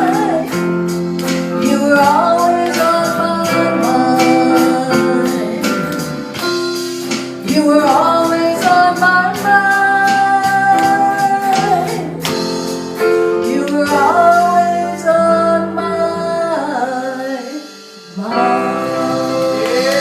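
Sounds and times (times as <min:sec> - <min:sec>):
woman singing: 0:00.0 - 0:06.2, 0:07.4 - 0:12.4, 0:13.2 - 0:20.0
pop ballad by small band: 0:00.0 - 0:20.0.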